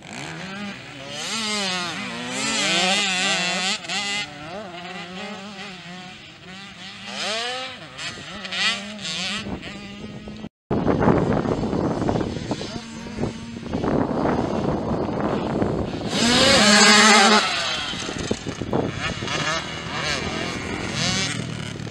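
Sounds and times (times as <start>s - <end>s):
motocross bike engines revving: 0.0s - 21.9s.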